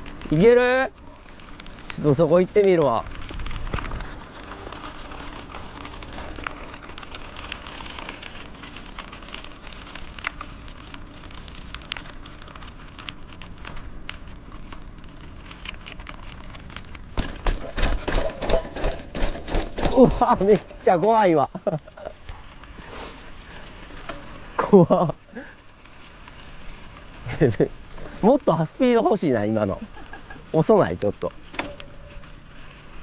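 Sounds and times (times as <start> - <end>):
bike bumping over rough ground: 0.0 - 33.0
bike tyres rolling on dirt: 0.0 - 33.0.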